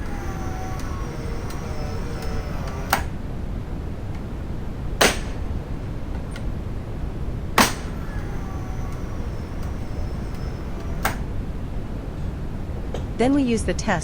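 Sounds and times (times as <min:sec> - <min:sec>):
circuit breaker mechanical clacks: 0:00.0 - 0:14.0
faint ringing: 0:00.0 - 0:14.0.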